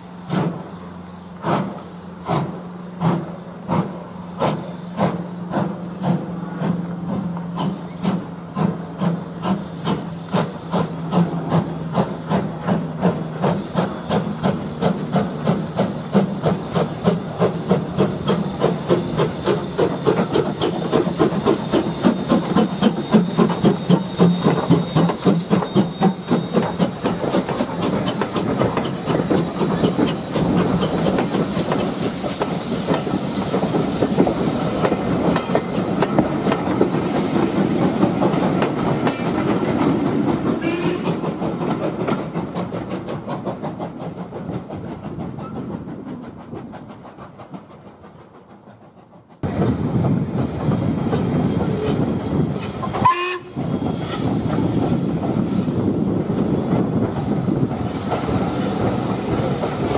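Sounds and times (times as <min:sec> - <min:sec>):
steam hissing: 0:00.0 - 0:59.9
steam locomotive exhaust chuffing: 0:00.0 - 0:59.9
coaches clattering over rail joints: 0:01.4 - 0:59.9.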